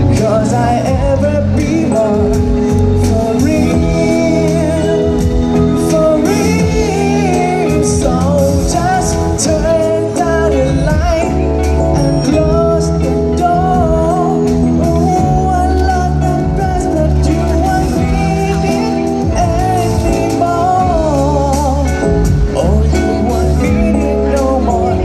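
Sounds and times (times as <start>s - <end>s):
instrumental backing with bass: 0.0s - 25.0s
person singing: 0.0s - 25.0s.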